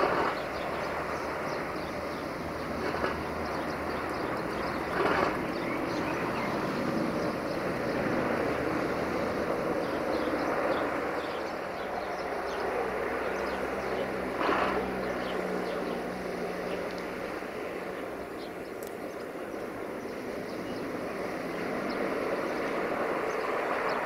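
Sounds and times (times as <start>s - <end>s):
diesel locomotive engine droning: 0.0s - 24.0s.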